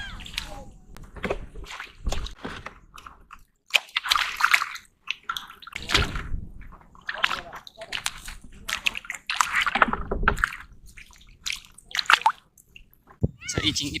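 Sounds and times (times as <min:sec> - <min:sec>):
splashing and squelching of wet mud: 0:00.0 - 0:13.0.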